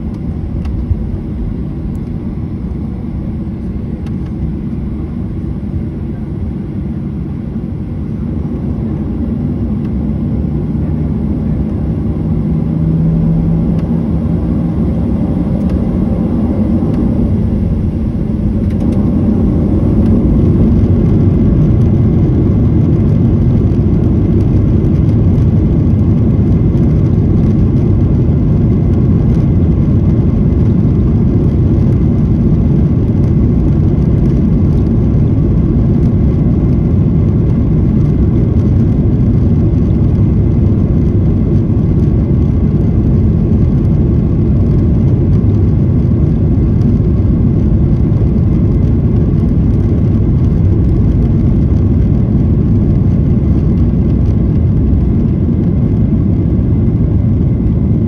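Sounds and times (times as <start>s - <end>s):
jet engines rumbling and whirring: 0.0s - 58.0s.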